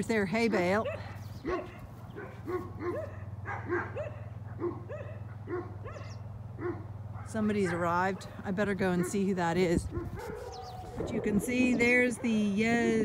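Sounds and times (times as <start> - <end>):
dogs barking: 0.6 - 13.0.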